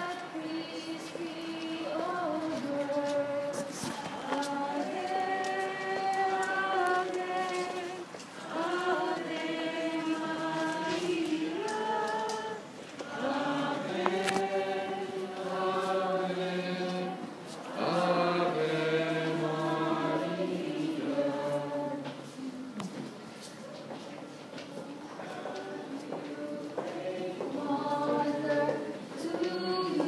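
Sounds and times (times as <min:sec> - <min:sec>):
group singing a slow hymn: 0:00.0 - 0:23.2, 0:25.0 - 0:30.0.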